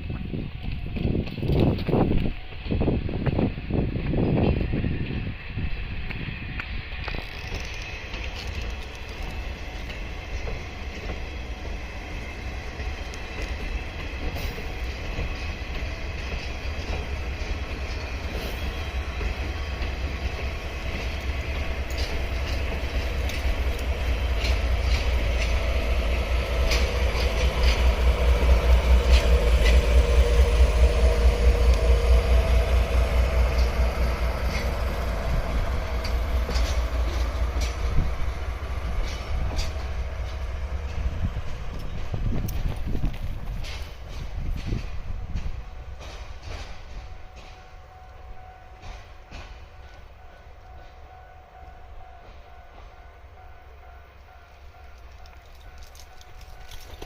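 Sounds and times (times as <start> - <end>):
diesel locomotive engine rumble: 0.0 - 57.0
train wheels on rails: 0.0 - 57.0.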